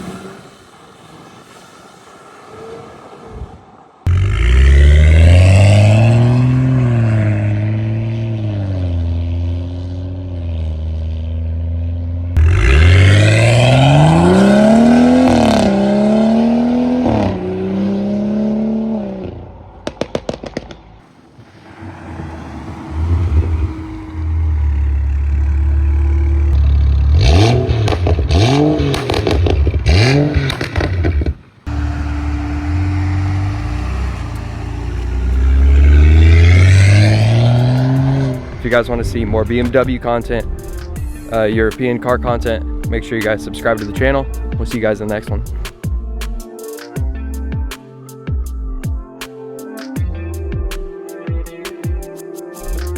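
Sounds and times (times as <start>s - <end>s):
car engine revving: 0.0s - 45.8s.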